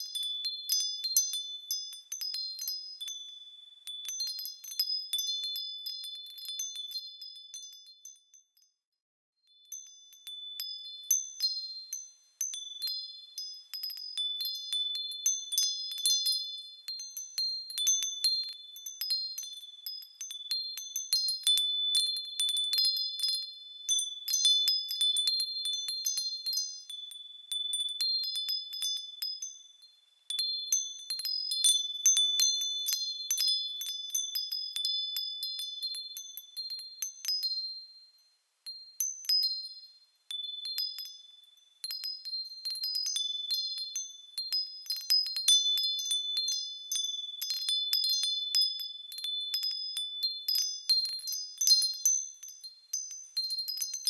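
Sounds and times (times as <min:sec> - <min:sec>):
small metal bells tinkling: 0:00.0 - 0:54.0.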